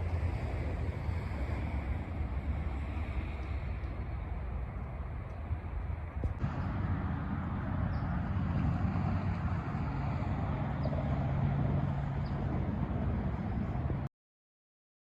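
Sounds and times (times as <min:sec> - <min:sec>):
low engine rumble: 0:00.0 - 0:14.1
steady hum: 0:00.0 - 0:14.1.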